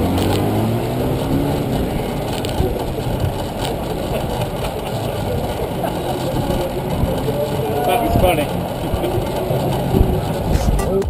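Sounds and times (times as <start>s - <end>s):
car engines running: 0.0s - 11.0s
road rumble: 0.0s - 11.0s
vehicle passing: 0.0s - 11.0s.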